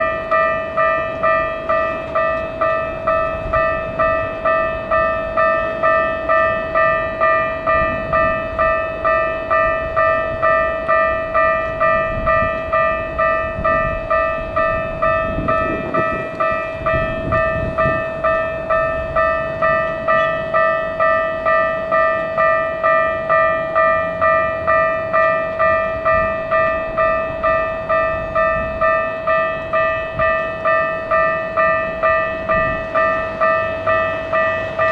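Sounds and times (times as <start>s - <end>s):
level crossing bell ringing: 0.0s - 34.9s.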